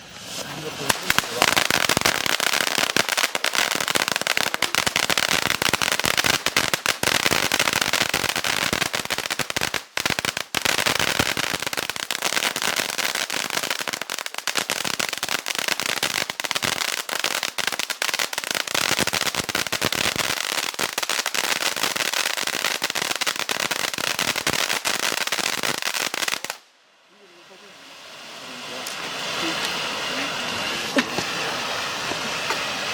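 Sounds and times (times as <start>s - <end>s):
fountain firework crackling: 0.0s - 32.9s.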